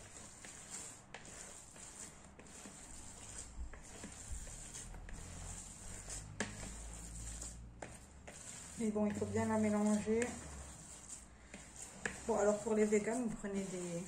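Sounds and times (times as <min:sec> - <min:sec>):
hands kneading wet mixture: 0:00.0 - 0:14.0.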